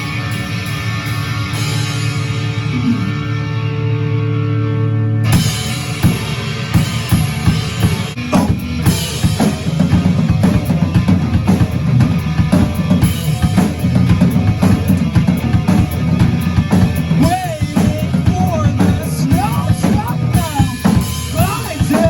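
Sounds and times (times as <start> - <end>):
drum kit driving beat: 0.0 - 3.2, 5.3 - 22.0
rock band music: 0.0 - 22.0.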